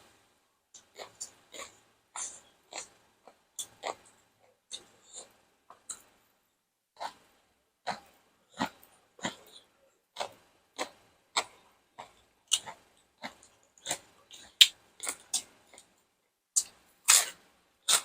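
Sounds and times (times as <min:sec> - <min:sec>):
chewing crunchy food: 0:00.8 - 0:06.1, 0:07.0 - 0:16.0, 0:16.6 - 0:18.0.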